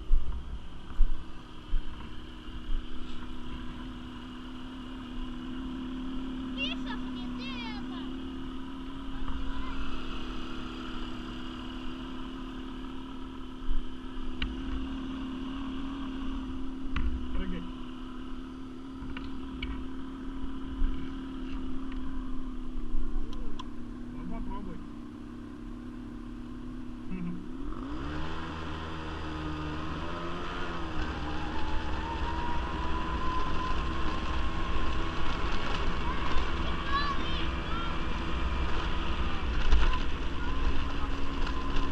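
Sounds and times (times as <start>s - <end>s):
quad bike engine idling: 0.0s - 41.9s.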